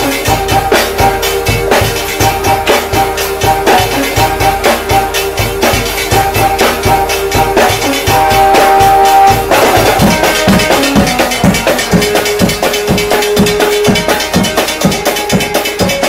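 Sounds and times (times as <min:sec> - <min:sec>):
fast drumming on large drums: 0:00.0 - 0:16.0
held melodic notes: 0:00.0 - 0:16.0.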